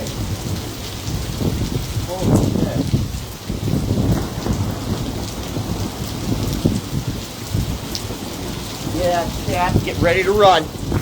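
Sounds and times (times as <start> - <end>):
heavy rain falling: 0.0 - 11.0
low rumble of thunder: 0.0 - 11.0.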